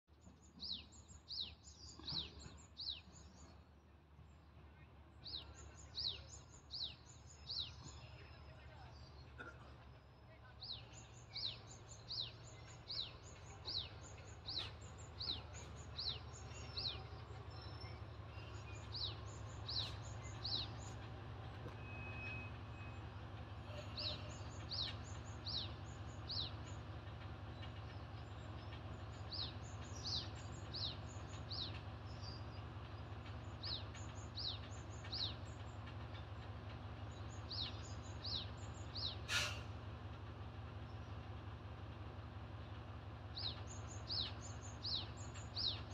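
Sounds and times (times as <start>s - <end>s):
diesel railcar engine drone: 0.1s - 45.9s.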